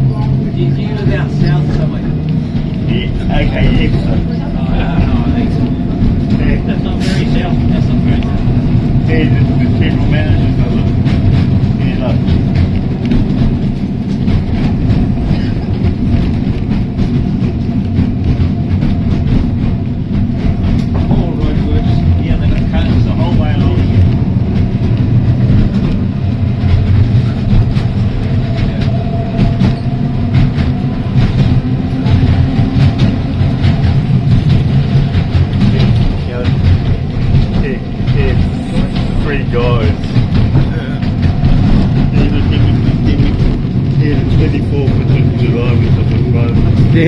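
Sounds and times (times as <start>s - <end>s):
tram low rumble: 0.0s - 47.0s
wheels clicking over rail joints: 0.0s - 47.0s.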